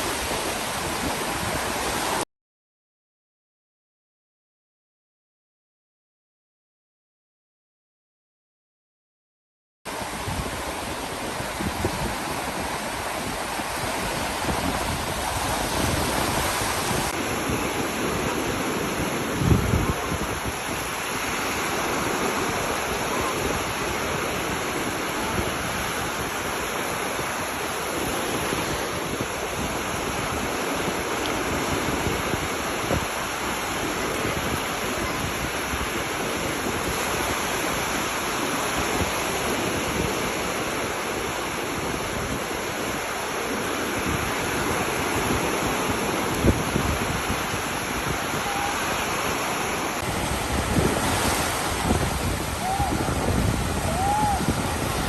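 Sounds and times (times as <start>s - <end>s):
ocean surf breaking: 0.0s - 2.2s, 9.9s - 55.0s.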